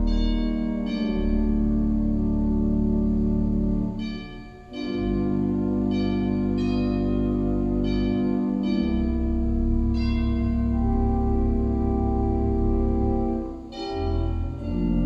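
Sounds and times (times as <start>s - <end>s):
church organ music: 0.0s - 15.0s.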